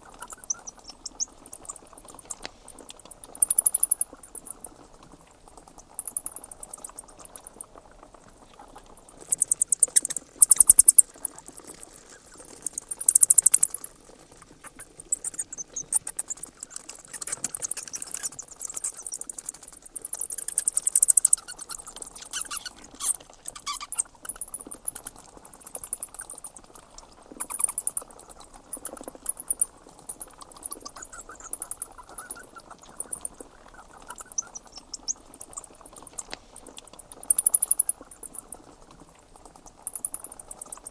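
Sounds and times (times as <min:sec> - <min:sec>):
bats squeaking: 0:00.0 - 0:40.9
faint steady hiss: 0:00.0 - 0:40.9.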